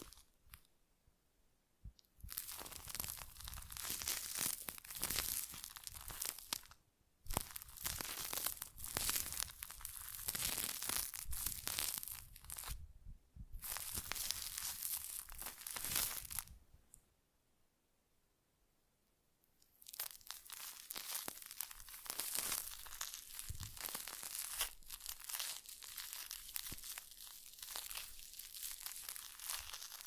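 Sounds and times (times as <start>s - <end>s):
close crinkling and scratching: 0.0s - 0.7s, 2.3s - 12.8s, 13.6s - 16.5s, 19.7s - 30.0s.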